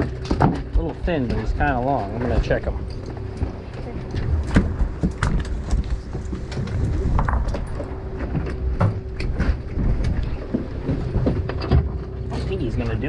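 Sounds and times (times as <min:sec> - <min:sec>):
clicks and knocks on boat deck: 0:00.0 - 0:13.0
faint hum: 0:00.0 - 0:13.0
low rumble: 0:00.0 - 0:13.0.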